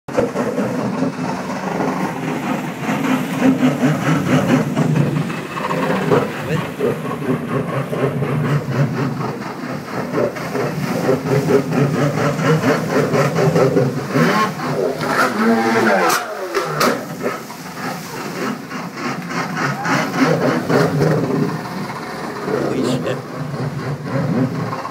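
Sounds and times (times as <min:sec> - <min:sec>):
jet ski engine revving: 0:00.1 - 0:24.9
water churning and splashing: 0:00.1 - 0:24.9.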